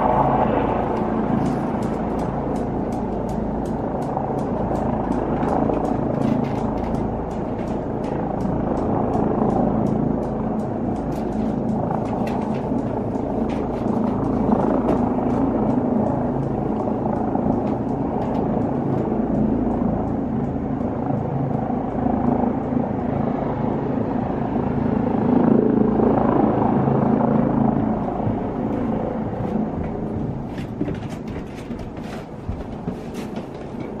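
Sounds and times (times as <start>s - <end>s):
distant helicopter rotor rumble: 0.0s - 34.0s.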